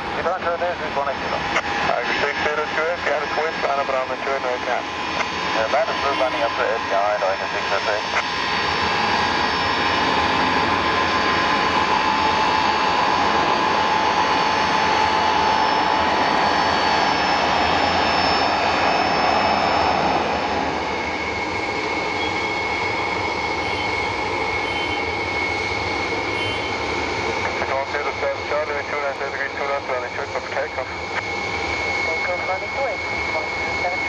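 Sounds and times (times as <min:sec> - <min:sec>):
jet engines whining: 0:00.0 - 0:34.0.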